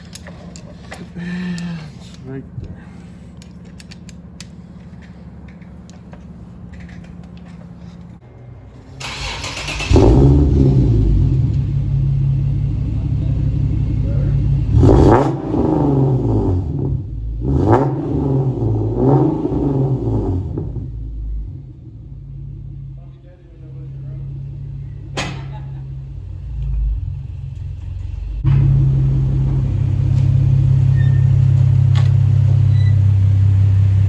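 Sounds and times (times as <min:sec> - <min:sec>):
car engine starting and revving: 0:03.6 - 0:34.0.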